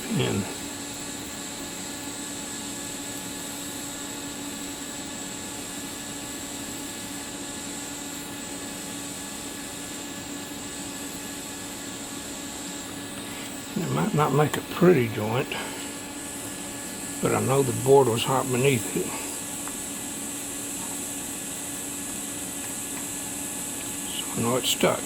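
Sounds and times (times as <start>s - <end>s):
mechanical hum and hiss: 0.0s - 25.0s.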